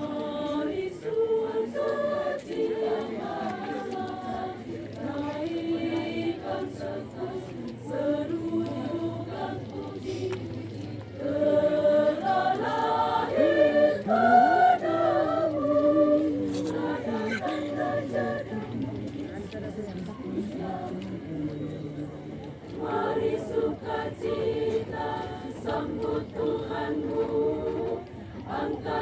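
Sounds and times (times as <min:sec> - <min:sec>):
women's choir singing a hymn: 0:00.0 - 0:29.0.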